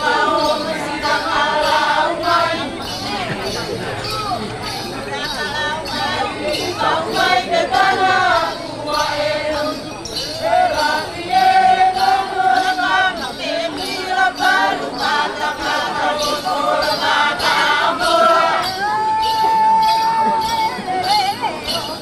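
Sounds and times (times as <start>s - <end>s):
group singing a chant: 0.0s - 22.0s
light jingling: 0.0s - 22.0s.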